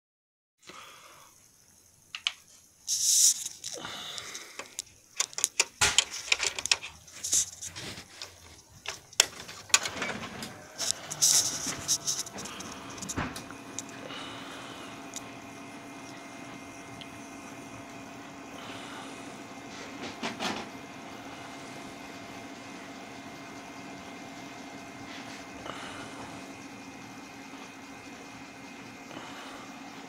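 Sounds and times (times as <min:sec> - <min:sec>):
faint machine hum: 0:00.7 - 0:30.0.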